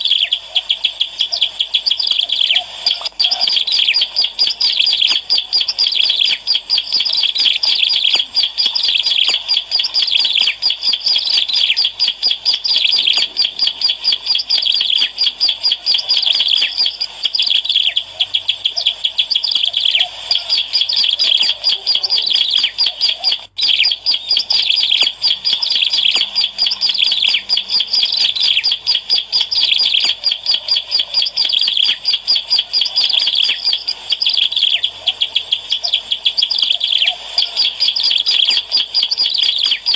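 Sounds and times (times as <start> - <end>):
bird singing fast high chirps: 0.1 - 39.9.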